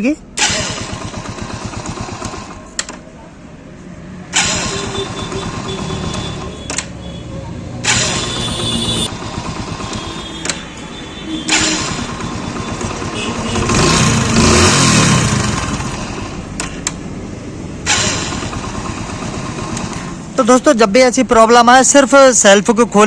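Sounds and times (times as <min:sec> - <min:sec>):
motorcycle engine idling and revving: 0:00.2 - 0:20.7.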